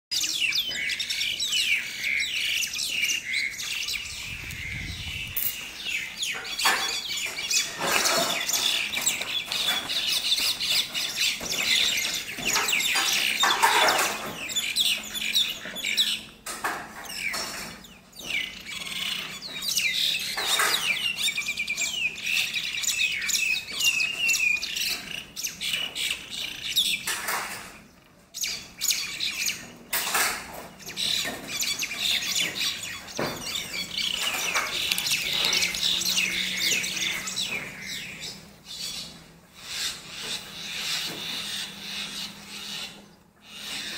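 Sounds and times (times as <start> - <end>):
small birds chirping and squawking: 0.1 - 43.9.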